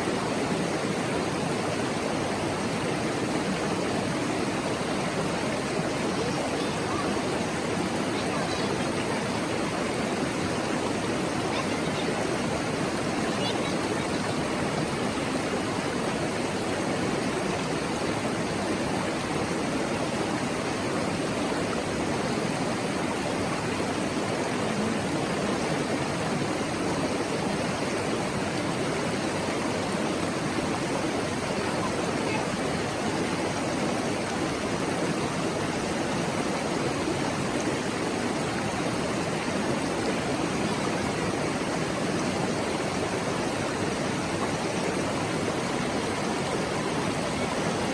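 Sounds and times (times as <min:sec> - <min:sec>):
mountain stream babbling: 0:00.0 - 0:47.9.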